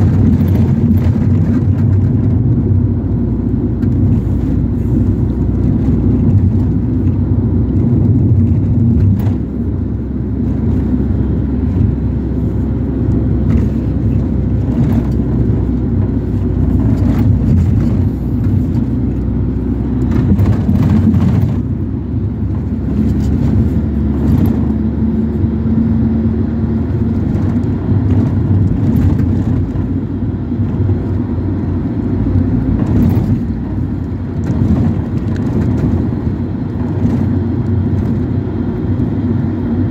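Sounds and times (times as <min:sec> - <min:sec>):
engine and road rumble: 0:00.0 - 0:39.9
rattles and knocks in vehicle: 0:00.0 - 0:39.9.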